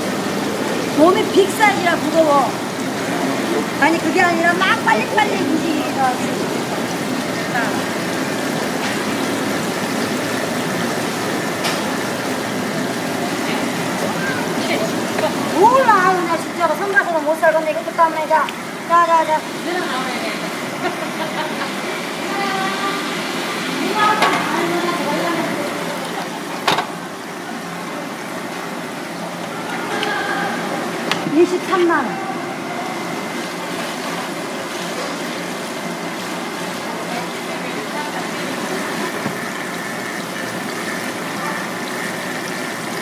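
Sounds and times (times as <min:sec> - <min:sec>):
water bubbling in a tank: 0:00.0 - 0:43.0.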